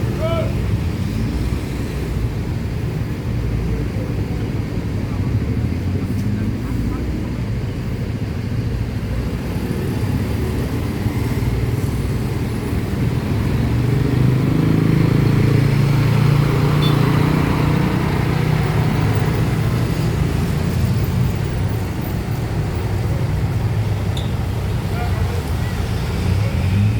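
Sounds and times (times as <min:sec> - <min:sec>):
diesel bus engine drone: 0:00.0 - 0:26.9.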